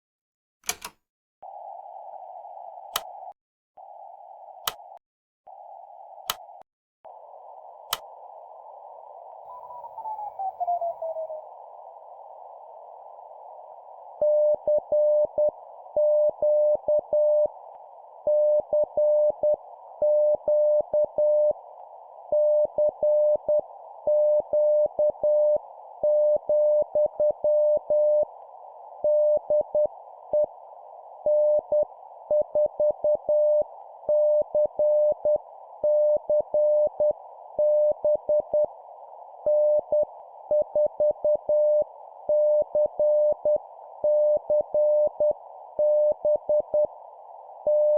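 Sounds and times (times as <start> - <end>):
radio static hiss: 1.5 - 47.9.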